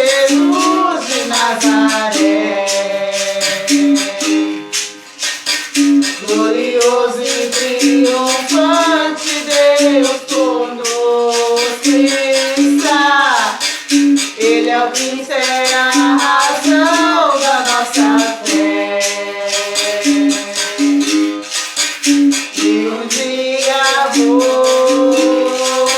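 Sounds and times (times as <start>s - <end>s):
person singing hymn melody: 0.0s - 4.7s, 6.2s - 13.7s, 14.4s - 21.2s, 22.6s - 25.9s
berimbau with rattle rhythm: 0.0s - 25.9s.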